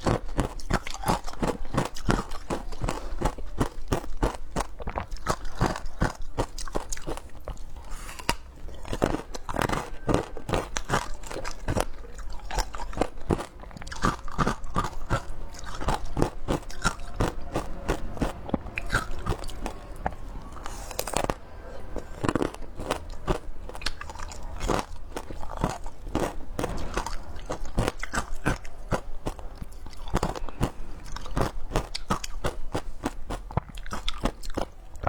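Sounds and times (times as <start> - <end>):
ice crunching between teeth: 0.0 - 35.0.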